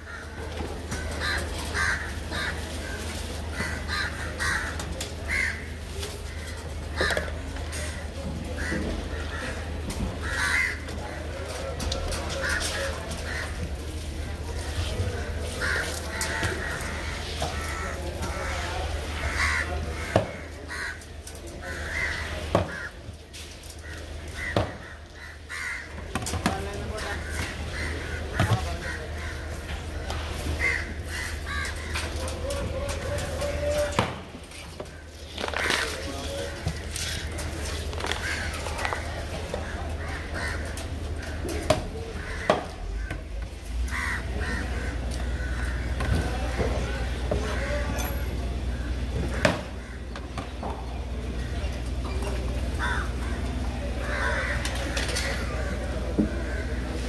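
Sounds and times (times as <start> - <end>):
crows cawing: 0.0 - 13.7, 14.6 - 34.0, 34.8 - 48.0, 48.7 - 50.5, 52.6 - 57.0.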